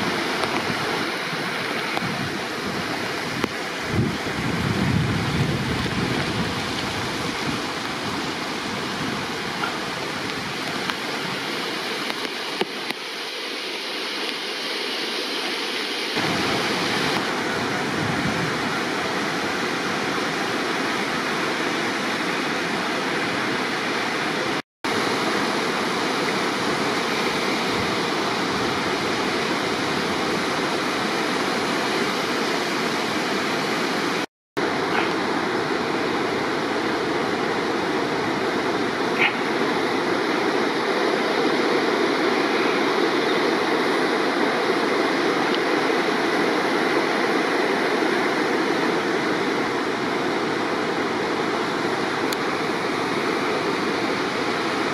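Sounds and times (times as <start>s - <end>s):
river rushing through rapids: 0.0s - 54.9s.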